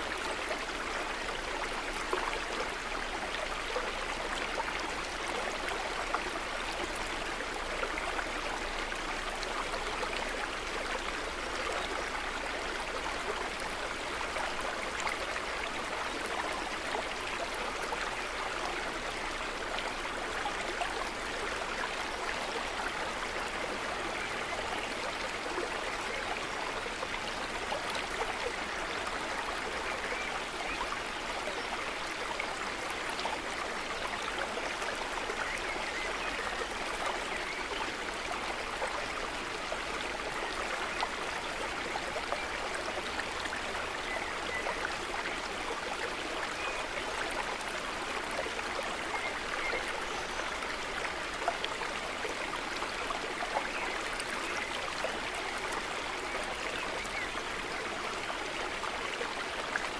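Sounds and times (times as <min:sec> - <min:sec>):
stream of running water: 0:00.0 - 0:59.9.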